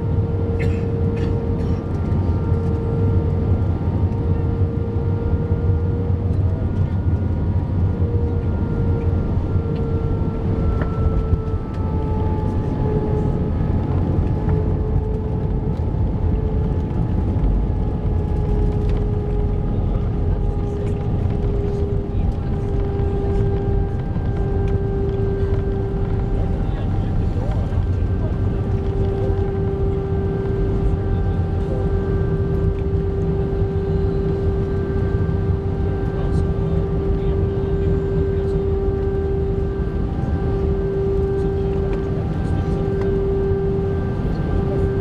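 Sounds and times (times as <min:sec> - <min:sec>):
aircraft cabin low rumble: 0:00.0 - 0:45.0
jet engine whine: 0:00.0 - 0:45.0.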